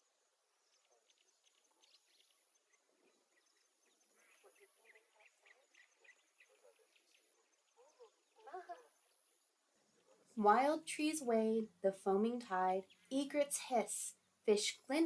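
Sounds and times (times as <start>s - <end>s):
faint rapid bird chirps: 0.0s - 11.7s, 12.5s - 14.9s.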